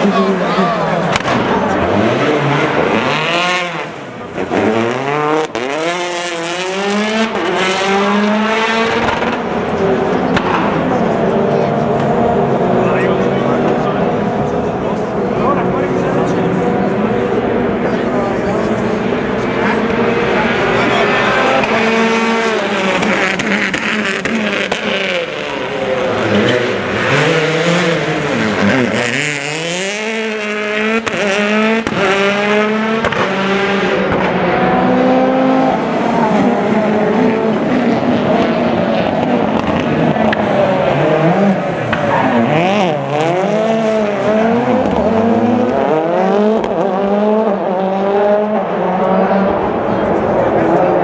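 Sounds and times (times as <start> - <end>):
rally cars racing past: 0.0 - 51.0.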